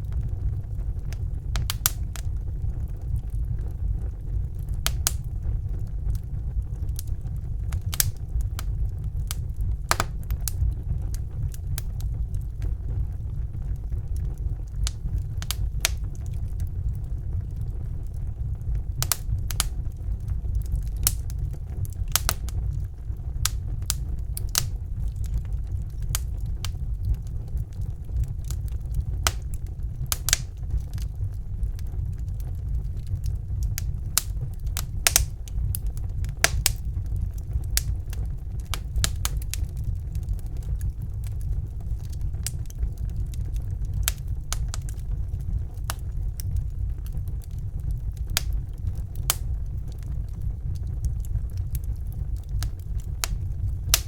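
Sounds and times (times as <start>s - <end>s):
low rumble: 0.0s - 54.0s
wood fire crackling: 0.0s - 54.0s.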